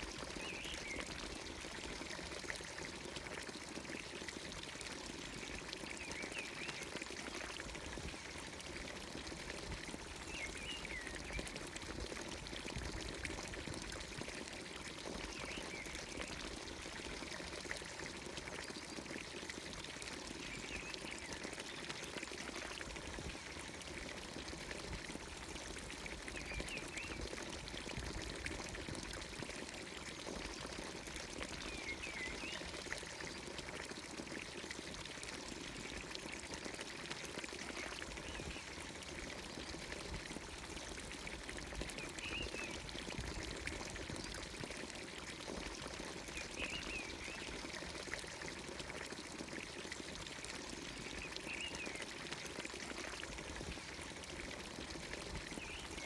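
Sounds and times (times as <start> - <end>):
water pouring into trough: 0.0 - 56.0.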